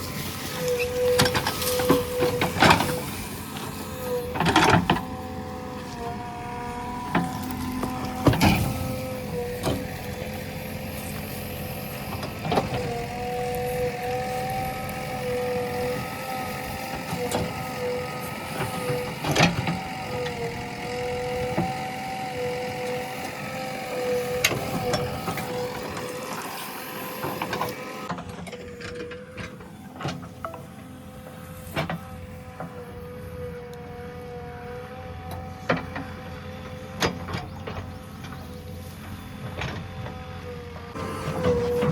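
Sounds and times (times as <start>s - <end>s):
backhoe loader engine whining: 0.0s - 41.9s.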